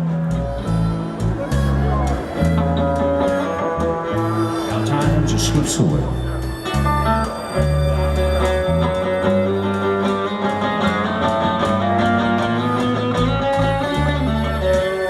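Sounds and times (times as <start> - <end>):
plucked guitar melody: 0.0 - 15.0
sustained bass notes: 0.0 - 15.0.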